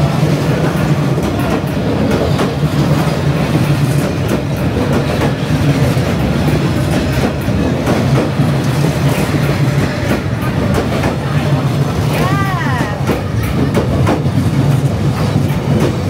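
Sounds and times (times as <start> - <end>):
train rumbling: 0.0 - 16.0
train wheels clattering: 0.0 - 16.0.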